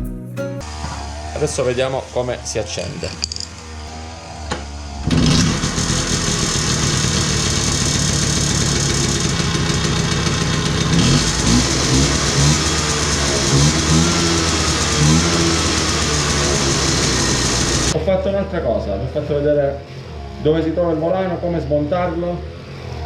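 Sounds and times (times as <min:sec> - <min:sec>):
scooter engine idling and revving: 0:00.6 - 0:18.0, 0:19.8 - 0:23.0.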